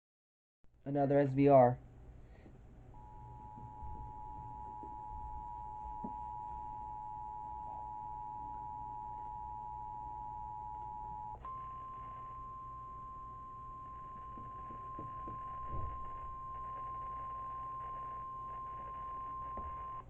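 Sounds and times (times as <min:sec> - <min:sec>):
faint low hum: 0:00.8 - 0:20.0
steady warning alarm tone: 0:03.0 - 0:20.0.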